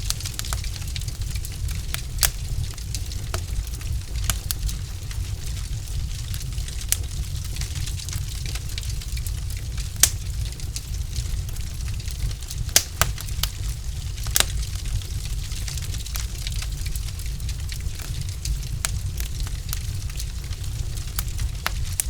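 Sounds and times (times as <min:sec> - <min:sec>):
fire crackling: 0:00.0 - 0:22.0
low fire rumble: 0:00.0 - 0:22.0
sharp pops from burning logs: 0:00.0 - 0:22.0.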